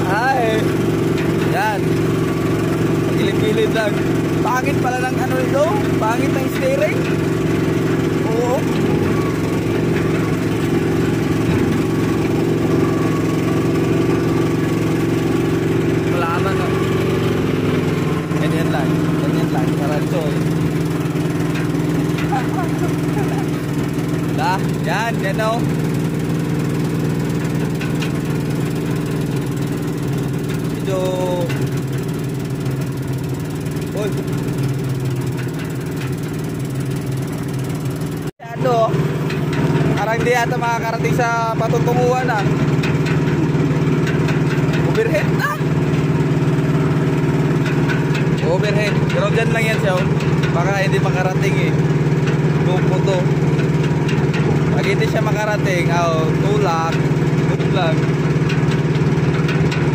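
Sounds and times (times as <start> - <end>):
road roller engine running: 0.0 - 59.9.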